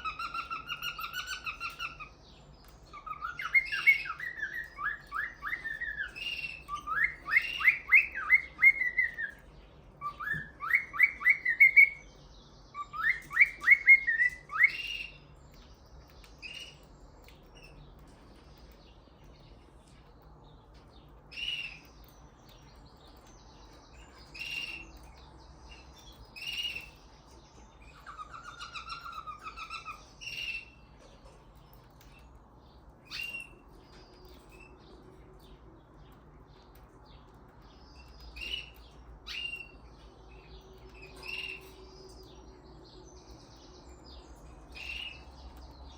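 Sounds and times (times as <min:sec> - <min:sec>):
cockatiel singing: 0:00.0 - 0:17.9, 0:21.2 - 0:22.6, 0:23.2 - 0:31.3, 0:33.0 - 0:35.0, 0:37.6 - 0:42.6, 0:43.4 - 0:45.6.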